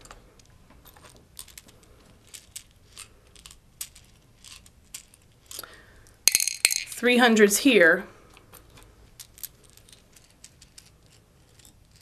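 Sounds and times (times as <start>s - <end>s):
light clicks of tubes and beads: 0.0s - 7.0s, 8.3s - 12.0s.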